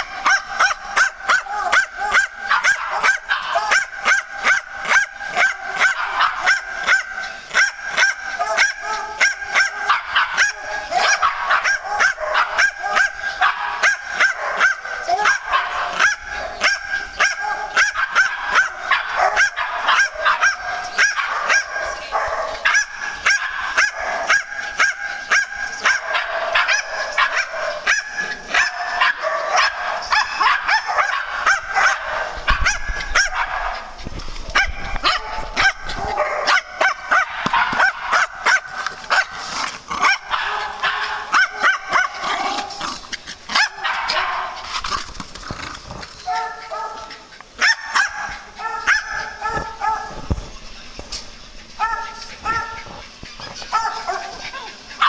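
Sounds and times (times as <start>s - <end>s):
small dogs barking and yapping: 0.0s - 55.0s.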